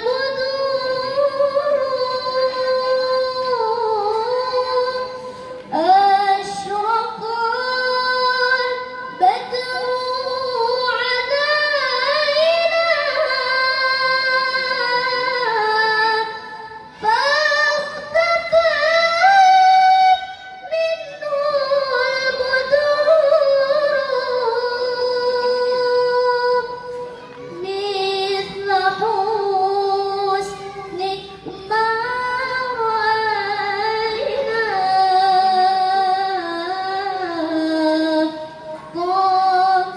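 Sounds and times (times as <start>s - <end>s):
woman chanting through loudspeakers: 0.0s - 39.9s.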